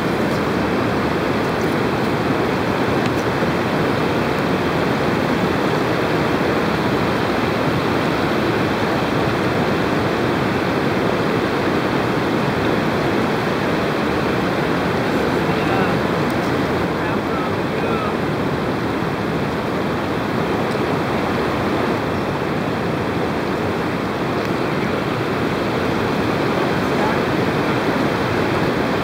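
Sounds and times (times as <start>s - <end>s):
river rushing over weir: 0.0s - 29.0s.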